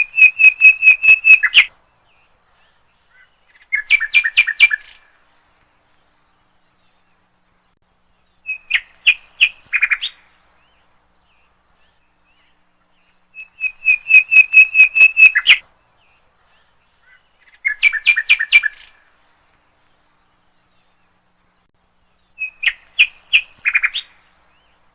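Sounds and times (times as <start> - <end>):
songbird chirping: 0.0 - 24.9.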